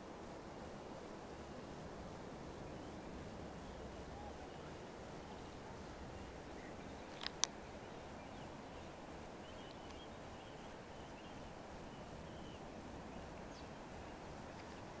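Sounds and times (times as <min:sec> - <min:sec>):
steady low hiss: 0:00.0 - 0:15.0
faint bird chirps: 0:02.6 - 0:15.0.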